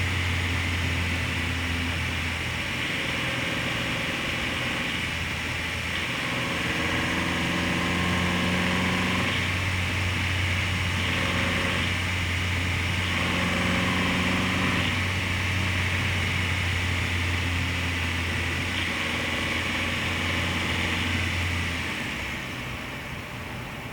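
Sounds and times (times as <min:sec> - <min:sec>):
car engine running: 0:00.0 - 0:23.9
engine chattering: 0:00.0 - 0:23.9.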